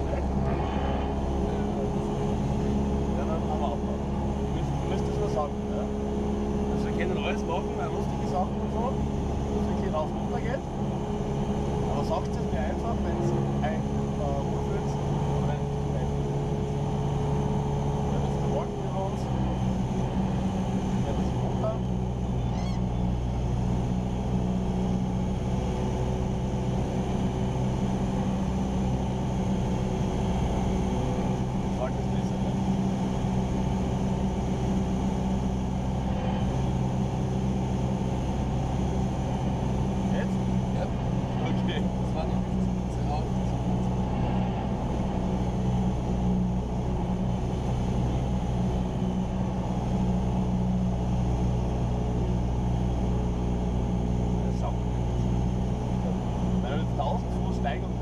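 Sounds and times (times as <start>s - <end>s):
airplane engine hum in cockpit: 0.0s - 58.0s.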